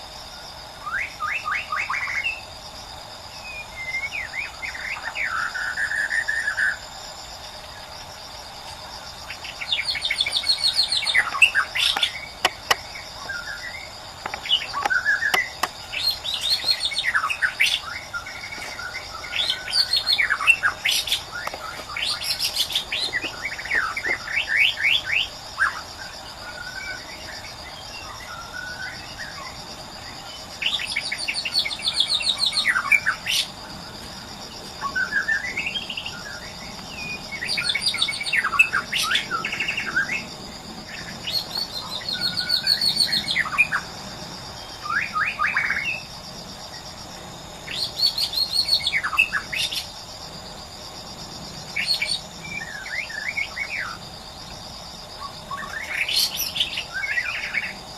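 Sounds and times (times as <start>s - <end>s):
high insect trilling: 0.0s - 57.9s.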